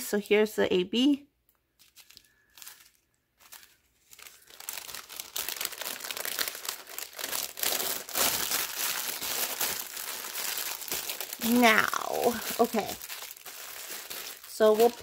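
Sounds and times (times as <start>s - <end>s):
plastic bag crinkling: 1.6s - 15.0s.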